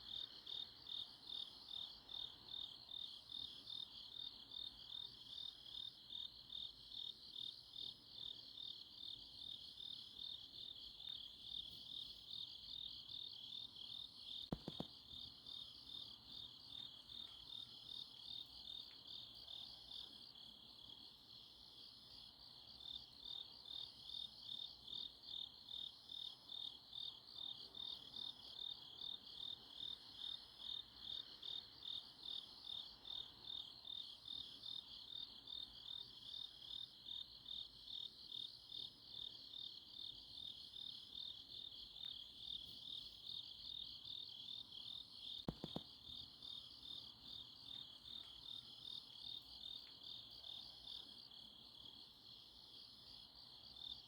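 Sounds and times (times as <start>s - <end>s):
crickets chirping: 0.0s - 54.0s
faint higher insect call: 0.0s - 54.0s.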